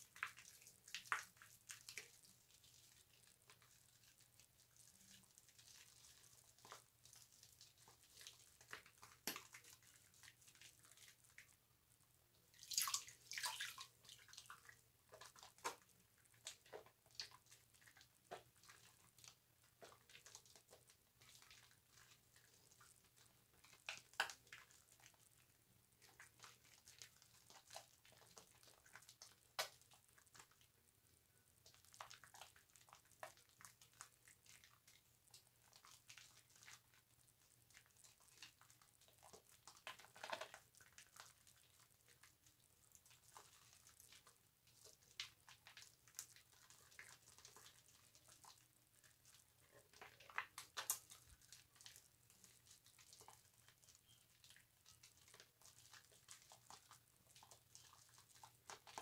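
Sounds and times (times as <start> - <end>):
soap lathering squishes: 0.0 - 59.0
wet squelches: 0.0 - 59.0.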